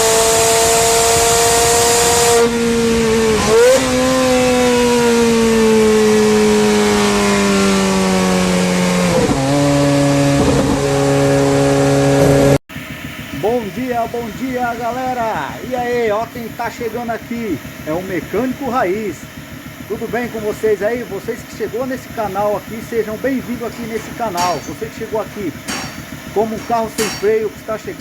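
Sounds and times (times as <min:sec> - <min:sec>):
engine-like drone: 0:00.0 - 0:28.0.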